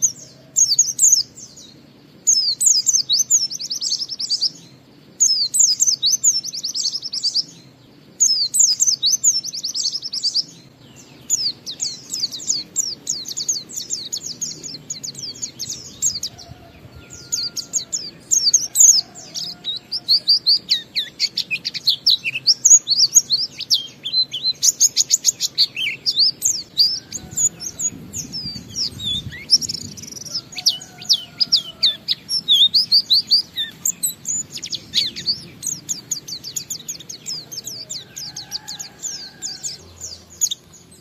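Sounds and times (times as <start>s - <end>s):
bird twittering song: 0.0s - 41.0s.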